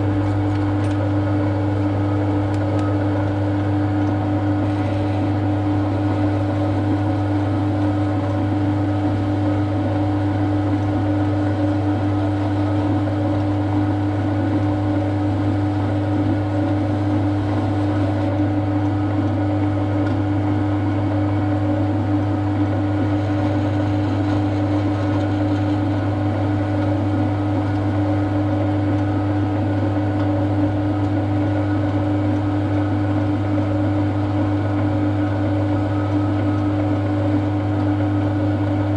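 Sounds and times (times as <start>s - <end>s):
workshop machine humming: 0.0s - 38.9s.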